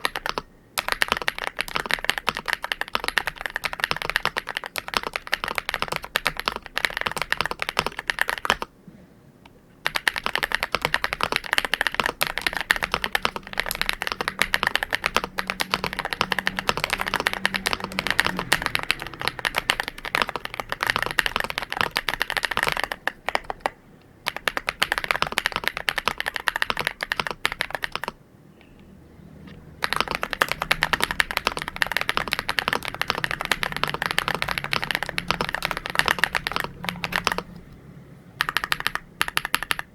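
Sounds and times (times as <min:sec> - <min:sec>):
mechanical keyboard typing: 0:00.0 - 0:08.7, 0:09.8 - 0:28.2, 0:29.8 - 0:37.8, 0:38.4 - 0:39.9.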